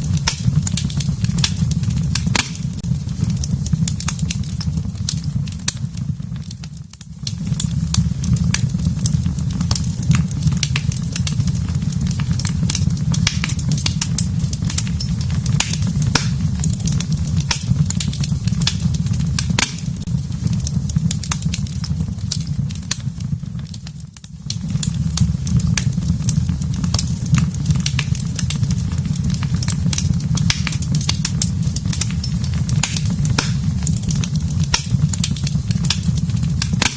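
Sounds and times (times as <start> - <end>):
fire crackling and popping: 0.0 - 36.9
low rumble of fire: 0.0 - 36.9.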